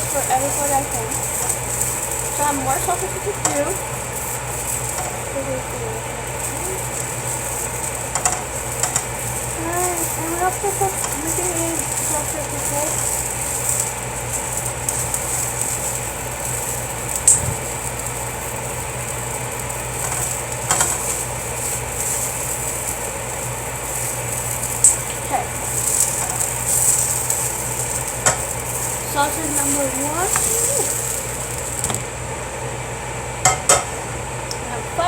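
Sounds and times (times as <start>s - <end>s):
utensil clicking against pan: 0.0s - 32.0s
sausages sizzling in a pan: 0.0s - 35.0s.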